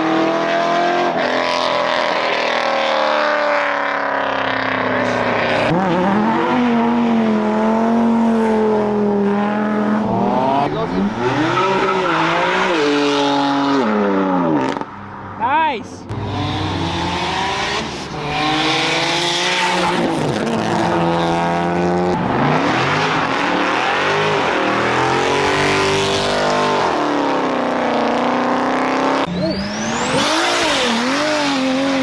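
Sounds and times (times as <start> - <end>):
car engine revving hard: 0.0 - 14.9, 16.1 - 32.0.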